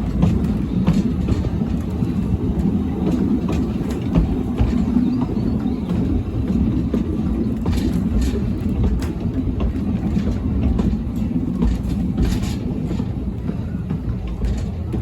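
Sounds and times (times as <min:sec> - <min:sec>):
train rumbling: 0:00.0 - 0:15.0
wheels clicking on rails: 0:00.0 - 0:15.0.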